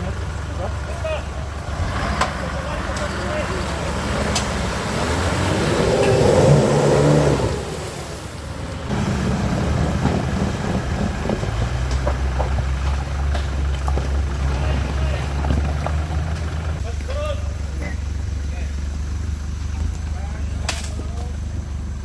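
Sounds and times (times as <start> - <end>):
vehicle engine under load: 0.0 - 22.0.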